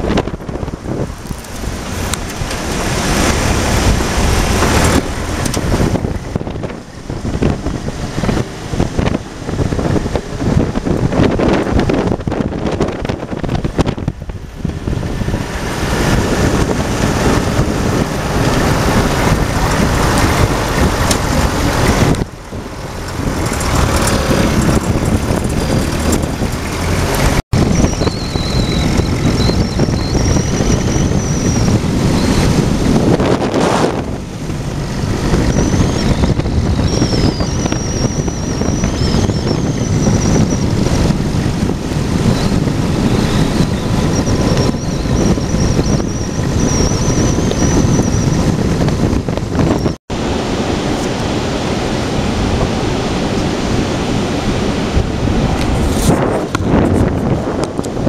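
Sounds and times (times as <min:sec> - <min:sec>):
jeep engine running: 0:00.0 - 0:58.0
wind buffeting microphone: 0:00.0 - 0:58.0.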